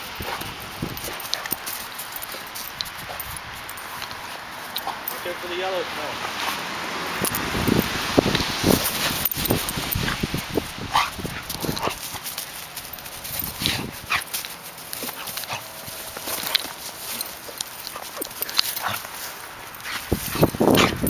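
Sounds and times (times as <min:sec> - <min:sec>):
dog sounds: 0:00.0 - 0:05.5, 0:08.7 - 0:21.0
footsteps crunching on snow: 0:00.0 - 0:21.0.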